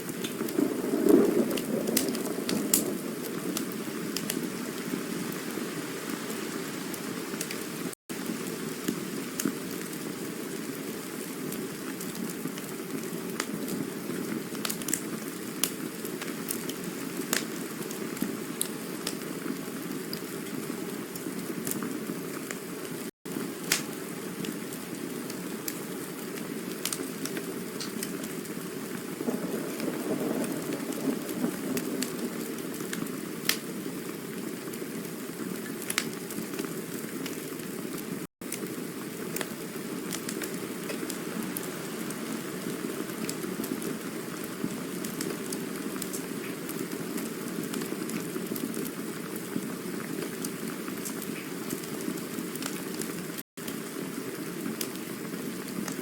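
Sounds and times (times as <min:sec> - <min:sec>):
campfire crackling and hissing: 0:00.0 - 0:56.0.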